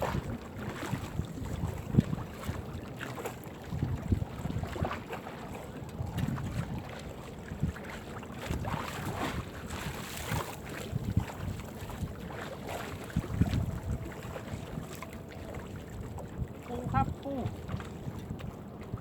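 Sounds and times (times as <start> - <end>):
water noise: 0.0 - 19.0
wind buffeting microphone: 0.0 - 19.0.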